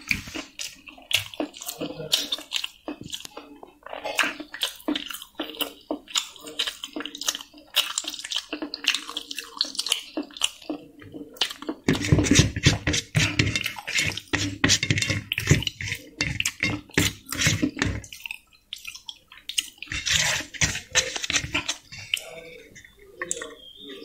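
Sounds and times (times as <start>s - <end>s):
wet open-mouthed chewing: 0.0s - 24.0s.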